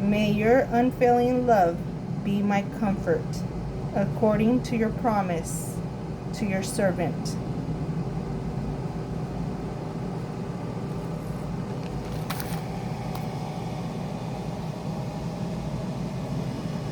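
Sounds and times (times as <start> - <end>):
air fryer fan whirring: 0.0 - 16.9.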